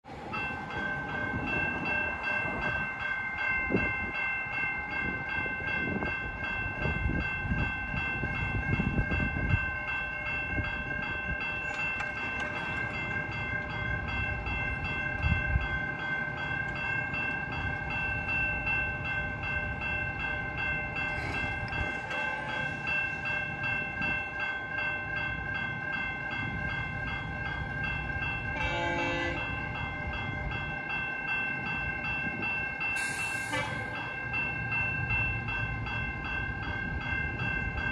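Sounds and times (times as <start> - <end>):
railroad crossing bells ringing: 0.0 - 37.9.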